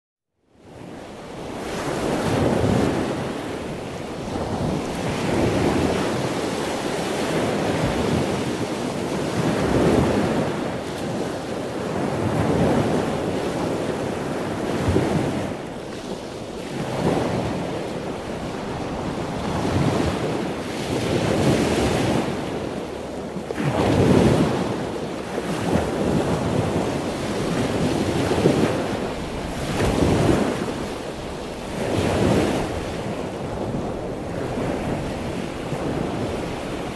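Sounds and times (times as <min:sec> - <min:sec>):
waves washing onto beach: 0:00.5 - 0:36.9.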